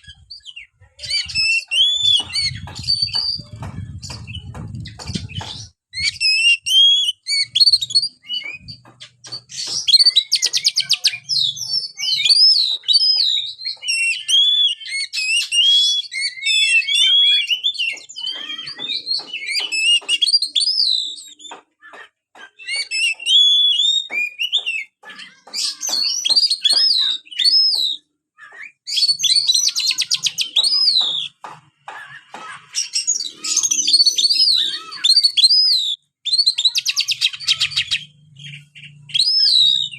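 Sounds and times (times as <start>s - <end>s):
bird singing whistled song: 0.0s - 31.4s, 32.8s - 39.9s.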